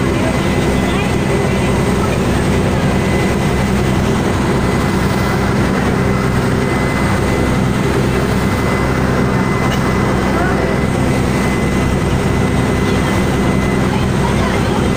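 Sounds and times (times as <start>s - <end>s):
boat engine droning: 0.0s - 14.9s
rush of propeller wake: 0.0s - 14.9s.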